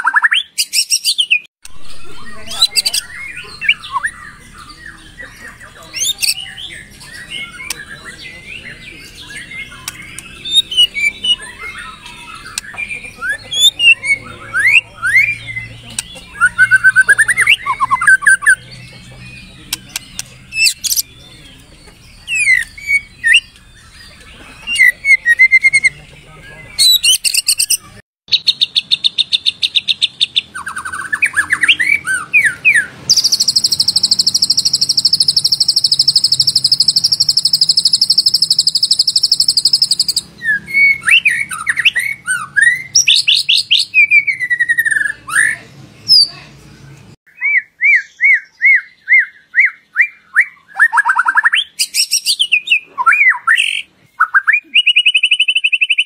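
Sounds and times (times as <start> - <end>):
bird whistling and trilling: 0.0 - 21.4, 22.1 - 26.0, 26.8 - 46.4, 47.3 - 56.0
repeated bird notes: 0.0 - 56.0.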